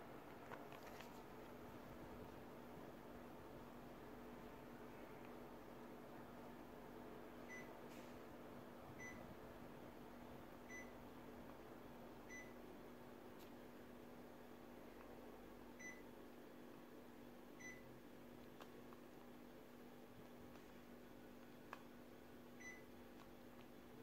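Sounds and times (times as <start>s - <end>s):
air conditioner hum and hiss: 0.0s - 24.0s.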